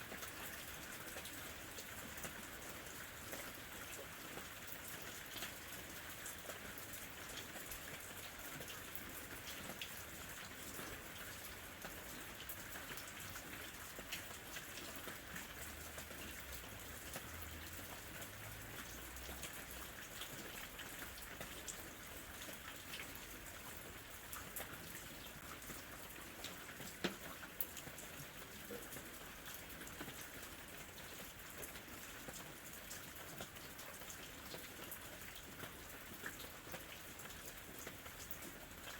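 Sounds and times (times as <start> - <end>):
gentle rain falling: 0.0 - 38.9
raindrops ticking on surface: 0.0 - 38.9.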